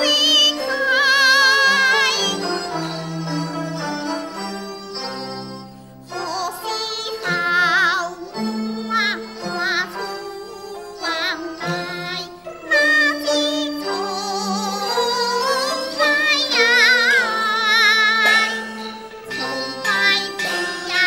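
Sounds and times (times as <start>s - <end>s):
woman singing opera: 0.0s - 3.0s, 6.1s - 21.0s
instrumental accompaniment: 0.0s - 21.0s.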